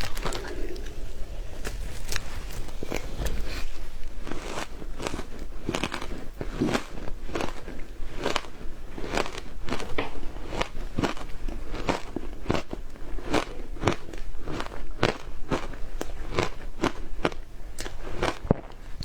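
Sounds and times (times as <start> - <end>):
crunching ice being chewed: 0.0 - 19.0.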